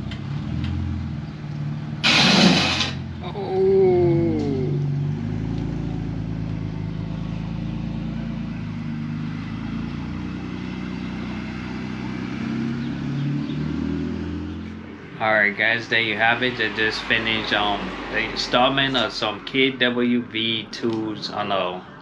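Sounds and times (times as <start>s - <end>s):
car engine running: 0.0s - 13.6s, 14.5s - 21.4s.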